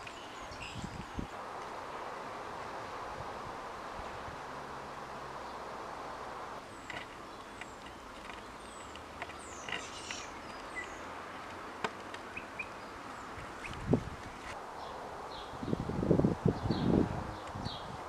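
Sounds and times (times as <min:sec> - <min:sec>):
faint background hiss: 0:00.0 - 0:18.0.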